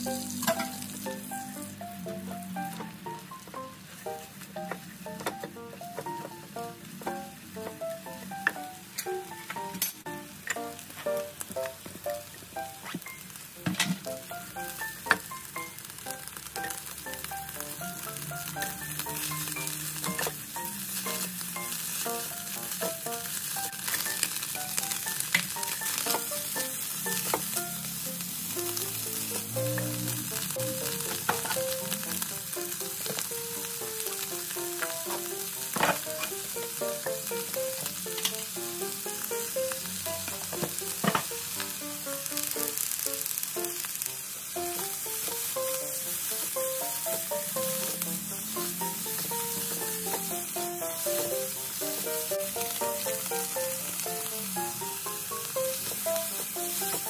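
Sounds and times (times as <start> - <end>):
background music: 0.0 - 57.0
oil sizzling in a pan: 0.0 - 57.0.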